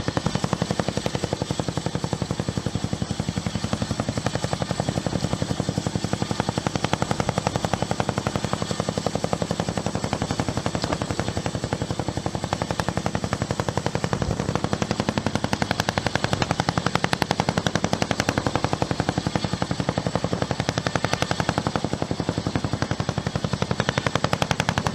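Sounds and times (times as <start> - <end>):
helicopter rotor blades beating: 0.0 - 24.9.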